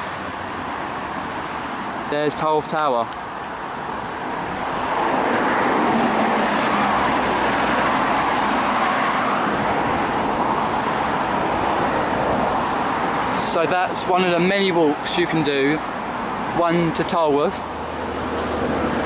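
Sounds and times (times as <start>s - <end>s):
road traffic tyre noise: 0.0s - 19.0s.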